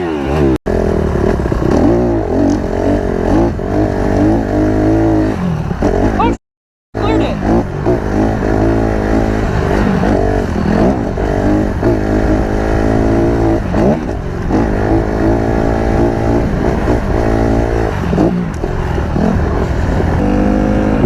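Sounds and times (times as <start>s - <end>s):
dirt bike engine revving: 0.0s - 6.4s, 7.0s - 21.0s.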